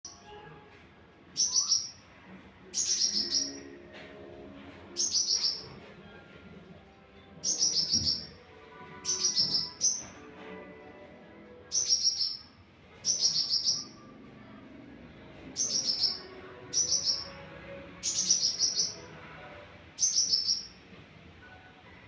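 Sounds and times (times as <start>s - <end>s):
songbird chirping: 1.3s - 21.6s.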